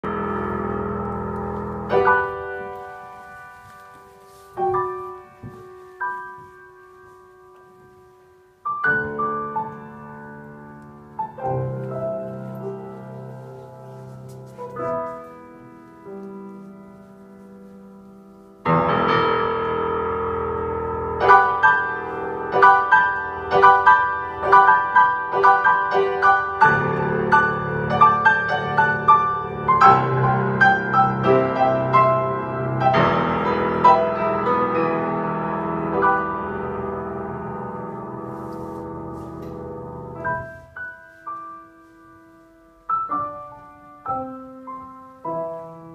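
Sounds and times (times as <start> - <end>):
grand piano chords: 0.0 - 45.9.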